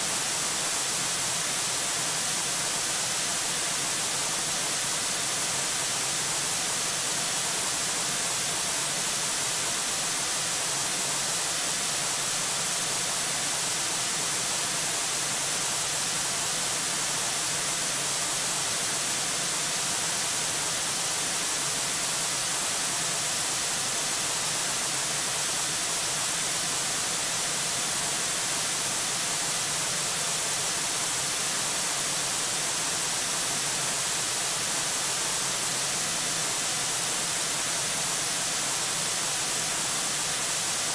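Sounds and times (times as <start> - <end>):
static hiss: 0.0 - 40.9.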